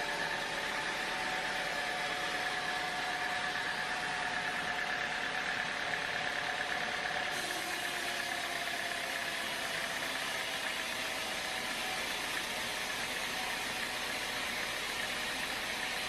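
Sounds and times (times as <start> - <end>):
machinery drone: 0.0 - 16.0
steady machine whine: 0.0 - 16.0.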